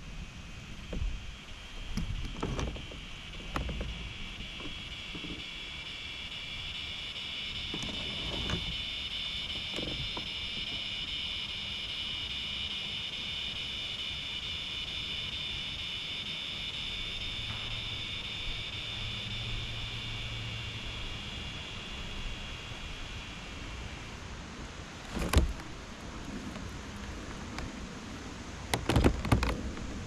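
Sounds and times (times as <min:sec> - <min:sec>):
high-pitched insect chorus: 0:00.0 - 0:26.0
low hum: 0:00.0 - 0:28.8.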